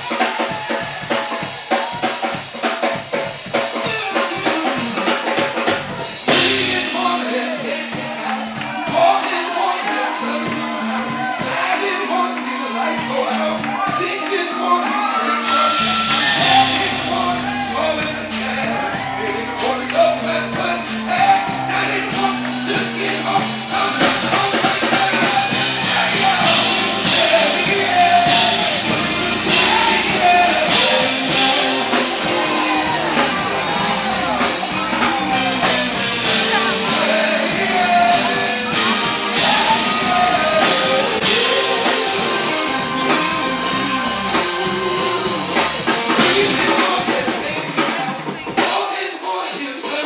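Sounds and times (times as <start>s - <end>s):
live band music: 0.0s - 50.0s
person singing: 3.7s - 50.0s.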